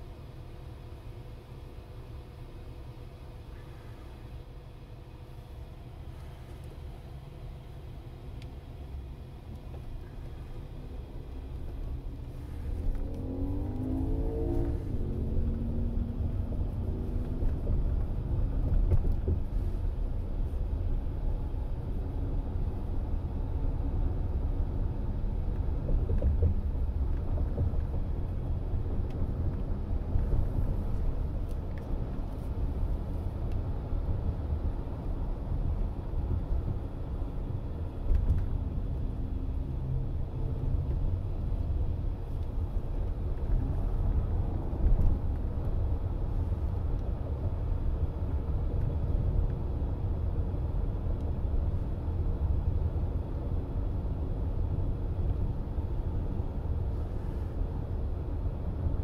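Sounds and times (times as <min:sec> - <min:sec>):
road and tyre rumble: 0:00.0 - 0:59.0.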